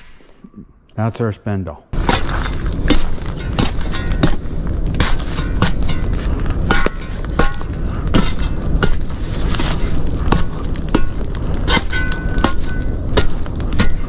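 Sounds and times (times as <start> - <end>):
wood fire crackling and popping: 1.9 - 14.0
metal poker stirring logs: 2.0 - 14.0.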